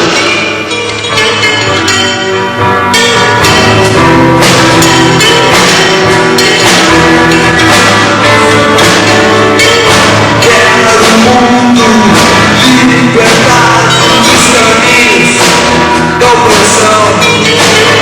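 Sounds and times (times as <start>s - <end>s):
rock band playing live: 0.0s - 18.0s
drum hits: 2.9s - 18.0s.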